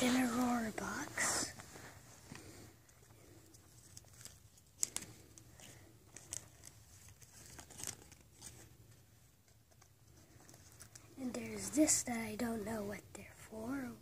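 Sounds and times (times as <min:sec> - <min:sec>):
cardboard and paper rustling: 0:00.0 - 0:12.0.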